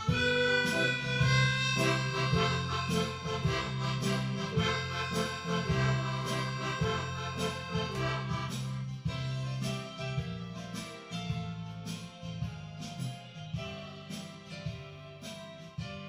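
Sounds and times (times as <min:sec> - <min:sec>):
instrumental music with steady beat: 0:00.0 - 0:16.0.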